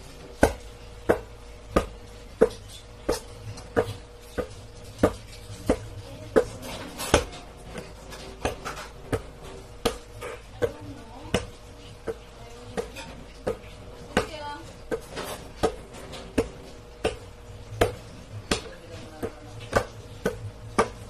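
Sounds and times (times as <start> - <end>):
basketball bouncing on hard floor: 0.2 - 21.0.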